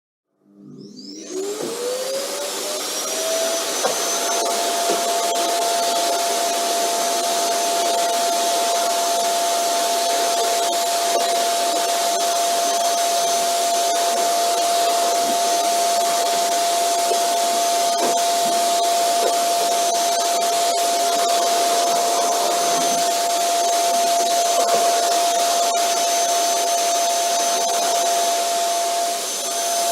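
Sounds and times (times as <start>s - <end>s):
vacuum cleaner motor whining: 0.4s - 29.9s.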